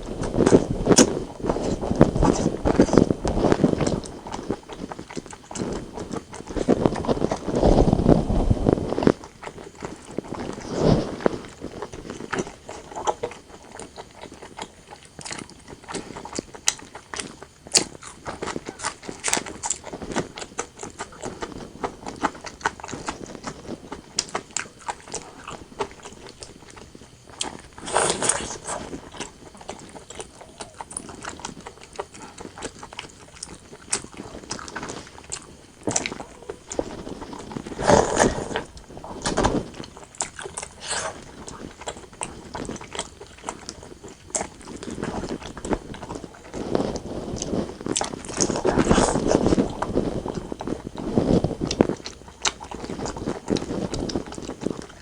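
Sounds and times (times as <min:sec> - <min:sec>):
close chewing mouth sounds: 0:00.0 - 0:55.0.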